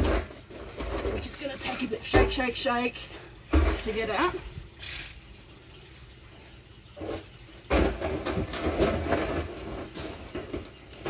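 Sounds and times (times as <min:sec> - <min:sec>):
water sloshing in plastic drum: 0:00.0 - 0:11.0.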